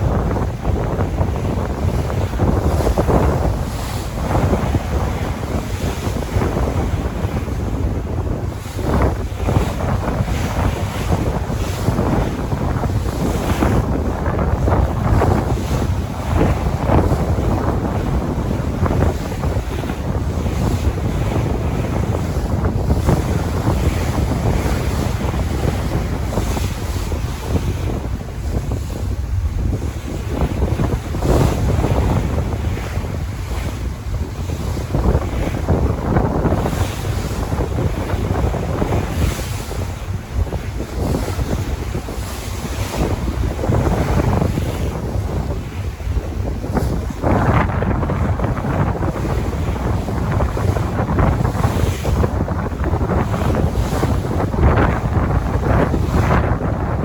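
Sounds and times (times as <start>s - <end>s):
sea waves washing in: 0.0s - 57.0s
wind buffeting microphone: 0.0s - 57.0s.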